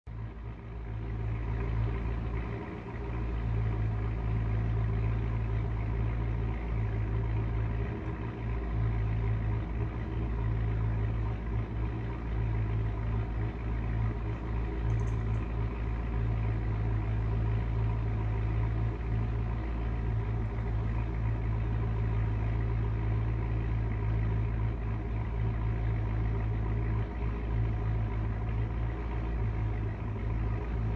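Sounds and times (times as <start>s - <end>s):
low machine hum: 0.1s - 30.9s.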